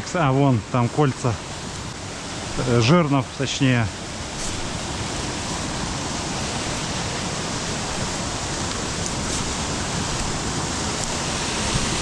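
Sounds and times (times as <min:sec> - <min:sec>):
waterfall rushing: 0:00.2 - 0:12.0.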